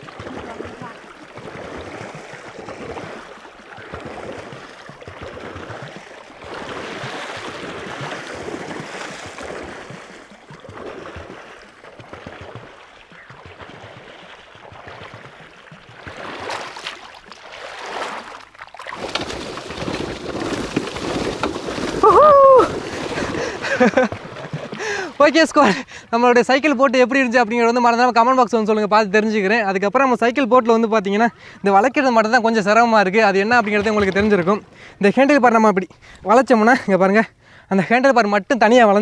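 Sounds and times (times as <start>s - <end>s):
water churning and splashing: 0.0s - 36.3s.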